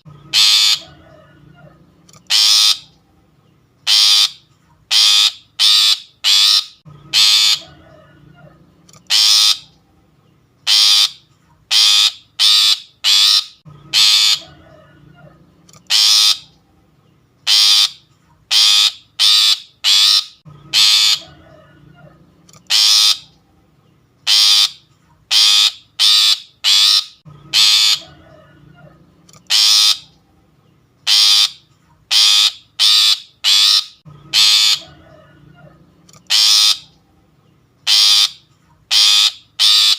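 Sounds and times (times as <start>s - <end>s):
bird harsh rasping calls: 0.0s - 3.0s, 3.8s - 9.8s, 10.6s - 16.6s, 17.4s - 23.4s, 24.2s - 30.2s, 31.0s - 37.0s, 37.8s - 39.9s.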